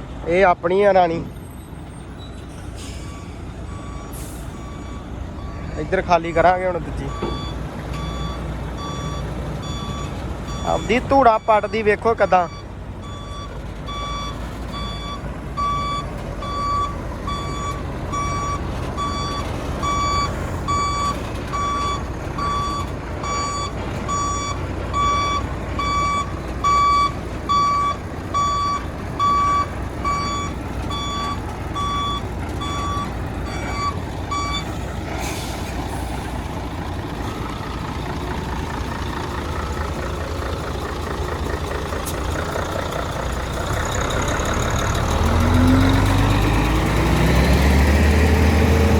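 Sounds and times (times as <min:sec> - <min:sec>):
diesel engine running: 0:00.0 - 0:48.9
truck reversing alarm beeping: 0:01.1 - 0:48.9.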